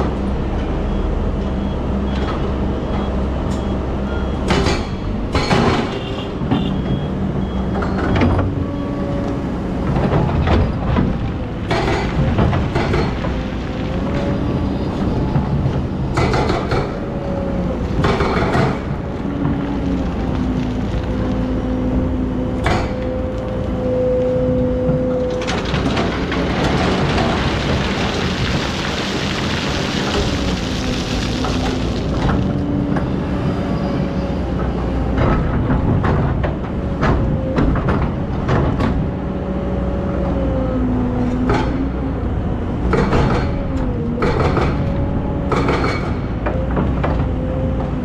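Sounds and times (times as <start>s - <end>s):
excavator engine and hydraulic whine: 0.0s - 48.0s.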